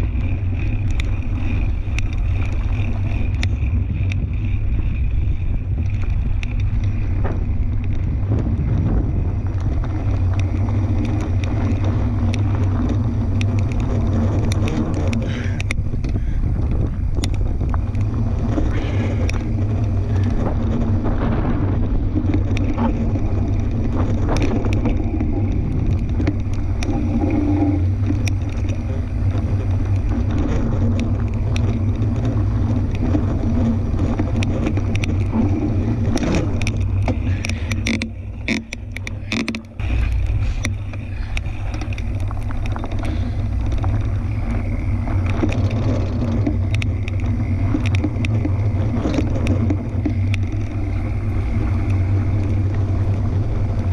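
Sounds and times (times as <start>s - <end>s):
bike tyres rumbling on dirt: 0.0s - 53.9s
clicks and rattles: 0.0s - 53.9s.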